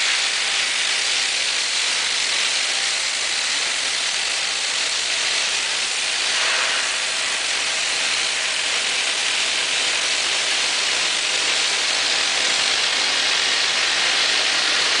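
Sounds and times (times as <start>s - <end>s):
cutting torches hissing: 0.0s - 15.0s.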